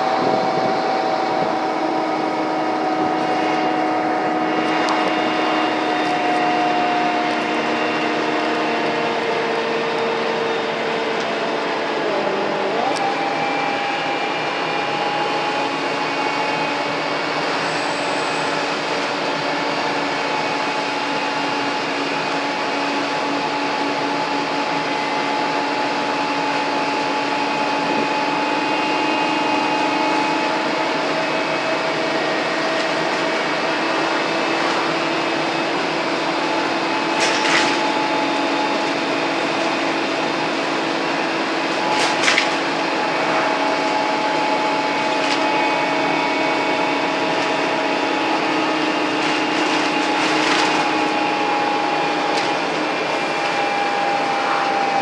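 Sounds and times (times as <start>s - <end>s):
bus diesel engine whine: 0.0s - 55.0s.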